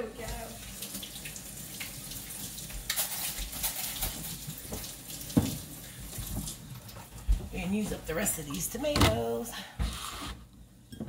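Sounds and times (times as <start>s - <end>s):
water running from faucet: 0.0s - 8.9s.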